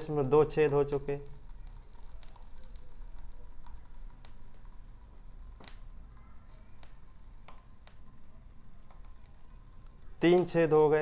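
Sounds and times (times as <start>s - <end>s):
gas flame: 0.0s - 11.0s
water dripping on burner pops: 0.0s - 11.0s.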